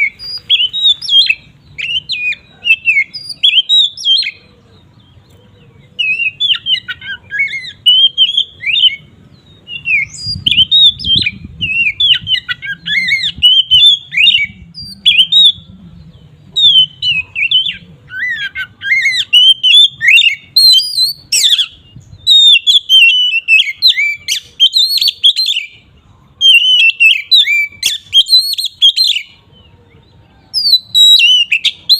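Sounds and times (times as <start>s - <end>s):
bird singing whistled phrases: 0.0s - 4.4s, 5.9s - 15.7s, 16.5s - 25.8s, 26.4s - 29.4s, 30.0s - 31.9s.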